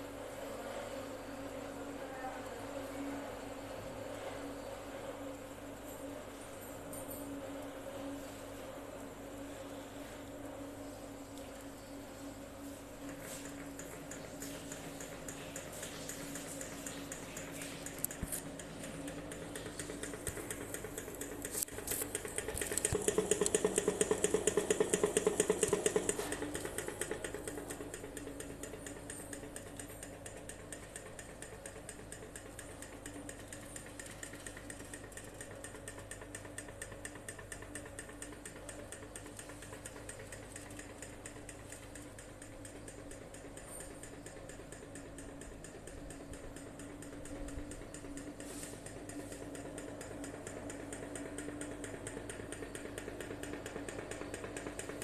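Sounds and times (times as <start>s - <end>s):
fan engine ticking: 8.8s - 55.0s.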